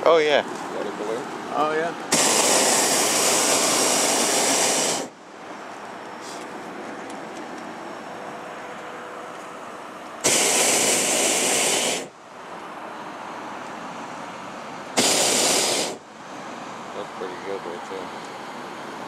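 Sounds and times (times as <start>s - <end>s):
propane burner blasts: 0.0s - 8.1s, 9.7s - 19.0s.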